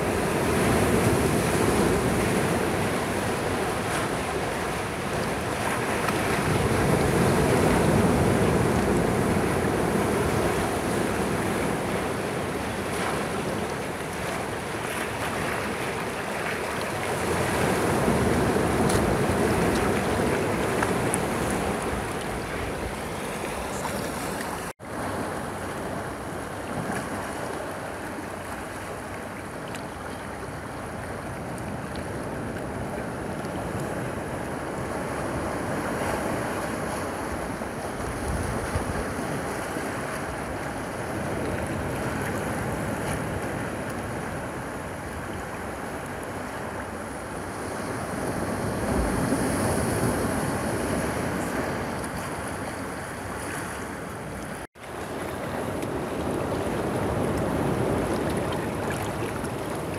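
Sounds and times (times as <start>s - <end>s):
sea waves washing over boulders: 0.0s - 59.9s.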